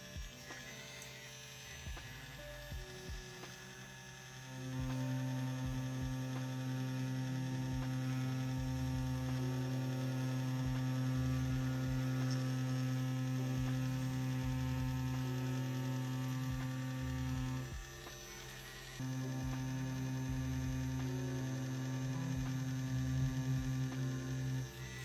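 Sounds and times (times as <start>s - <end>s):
tattoo pen motor hum: 0.0s - 25.0s.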